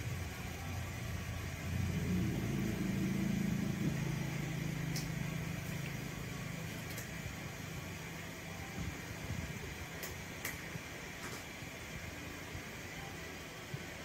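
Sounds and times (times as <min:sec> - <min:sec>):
low motor-like hum: 0:00.0 - 0:14.0.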